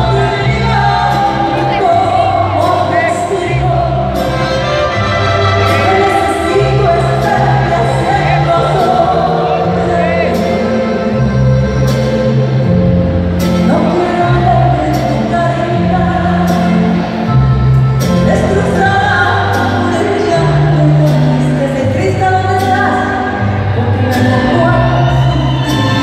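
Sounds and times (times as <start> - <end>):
woman singing into microphone: 0.0 - 12.6, 13.5 - 26.0
band playing: 0.0 - 26.0.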